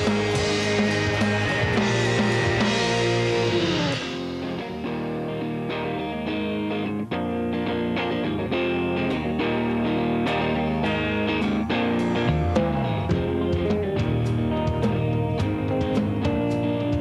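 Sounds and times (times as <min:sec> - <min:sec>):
guitar-led rock music: 0:00.0 - 0:17.0.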